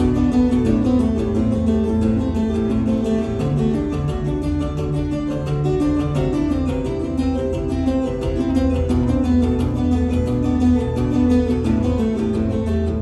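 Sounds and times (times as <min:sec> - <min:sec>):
fingerstyle acoustic guitar: 0:00.0 - 0:13.0.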